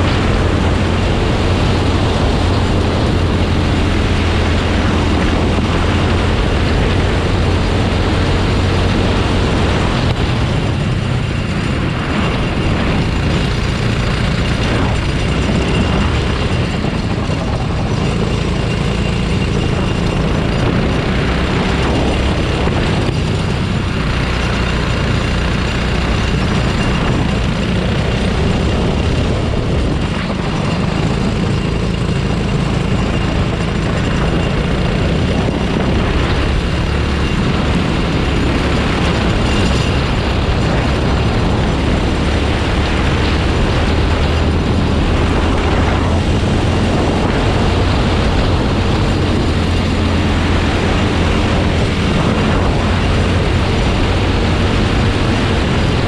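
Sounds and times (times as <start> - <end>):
go-kart engine running: 0.0 - 56.0
steady rushing noise: 0.0 - 56.0.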